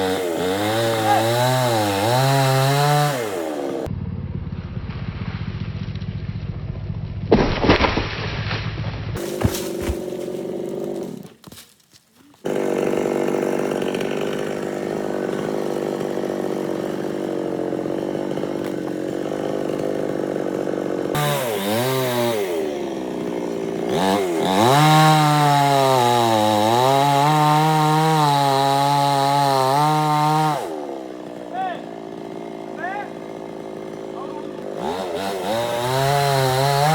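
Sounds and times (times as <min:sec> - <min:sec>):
chainsaw cutting wood: 0:00.0 - 0:03.9, 0:09.2 - 0:36.9.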